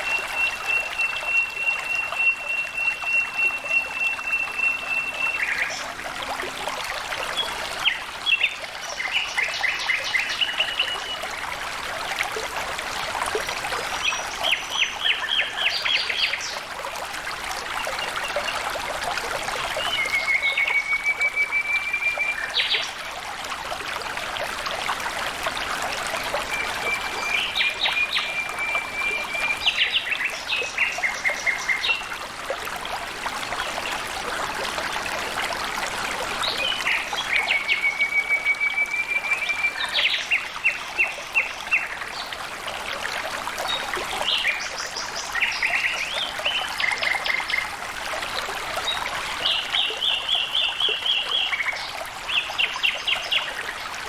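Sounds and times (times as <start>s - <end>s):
water flowing and trickling: 0.0s - 54.0s.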